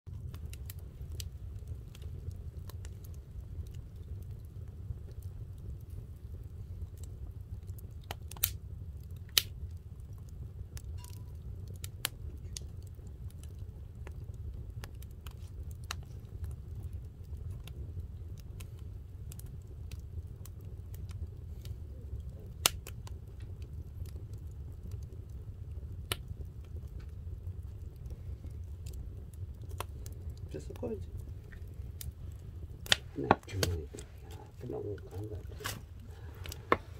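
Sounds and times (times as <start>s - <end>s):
steady low rumble: 0.1s - 36.9s.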